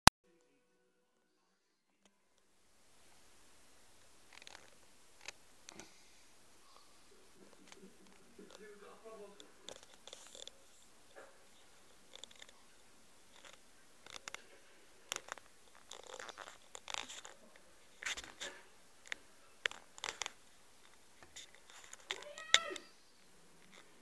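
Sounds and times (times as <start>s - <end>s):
faint clicks and rustles: 2.0s - 24.0s.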